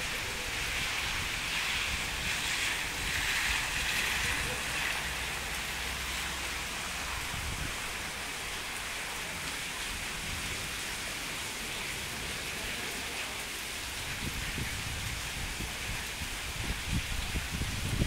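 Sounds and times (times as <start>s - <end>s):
rain on pavement: 0.0s - 18.0s.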